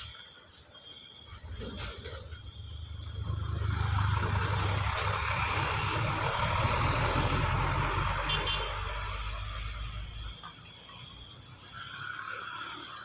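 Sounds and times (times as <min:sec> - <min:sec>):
truck engine rumble: 0:01.3 - 0:13.0
tyre and road noise: 0:01.3 - 0:13.0.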